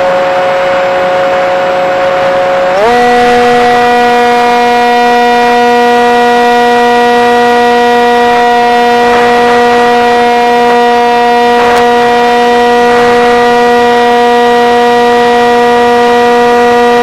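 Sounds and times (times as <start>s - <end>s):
model plane motor and propeller: 0.0s - 17.0s.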